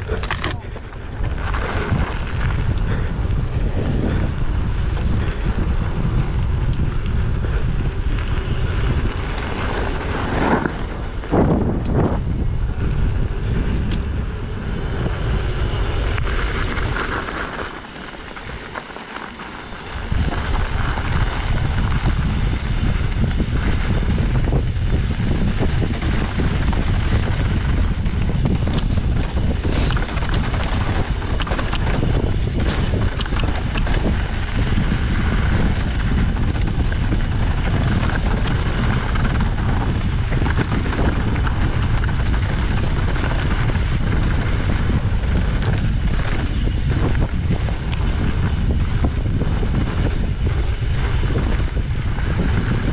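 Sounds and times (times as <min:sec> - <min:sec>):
tyre rumble: 0:00.0 - 0:52.9
wind buffeting microphone: 0:00.0 - 0:52.9.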